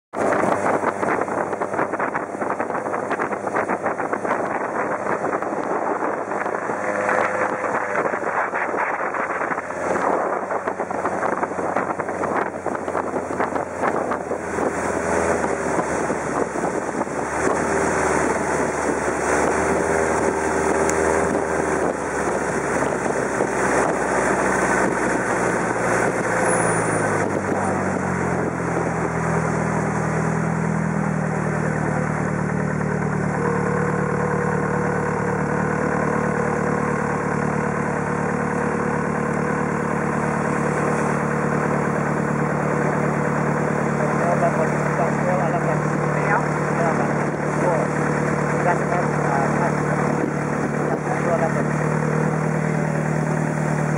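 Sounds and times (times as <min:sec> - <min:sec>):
boat engine running: 0:00.1 - 0:53.9
wind: 0:00.1 - 0:53.9
rush of water: 0:00.2 - 0:53.9.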